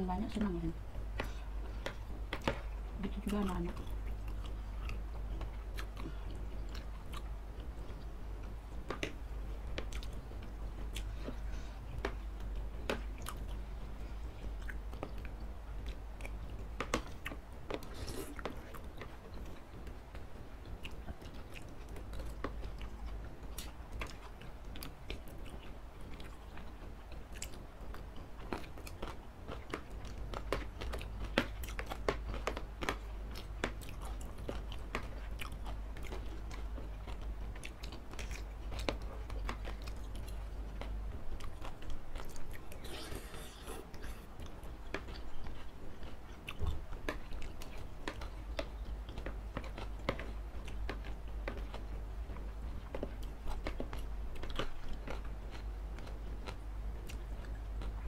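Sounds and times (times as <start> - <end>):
wet chewing and lip smacks: 1.2 - 8.1, 8.7 - 19.9, 20.6 - 58.0.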